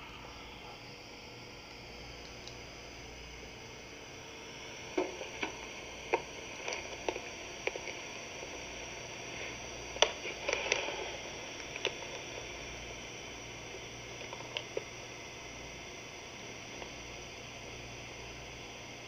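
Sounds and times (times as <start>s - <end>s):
steady hiss: 1.4s - 19.0s.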